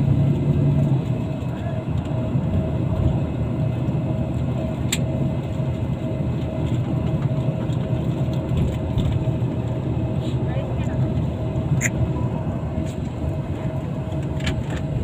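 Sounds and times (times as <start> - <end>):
vehicle interior rumble: 0.0 - 15.0.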